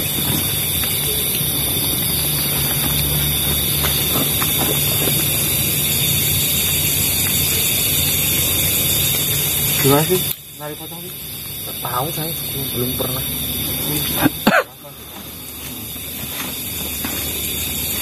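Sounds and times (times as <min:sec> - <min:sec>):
loud hiss: 0:00.0 - 0:18.0.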